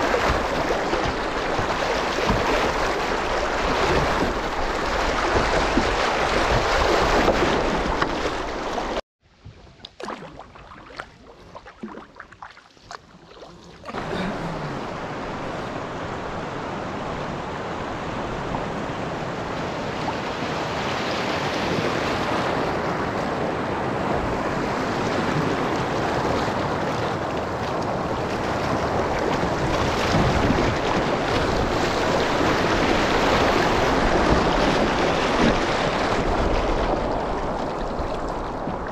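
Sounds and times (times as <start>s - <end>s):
water rushing past a boat: 0.0s - 38.9s.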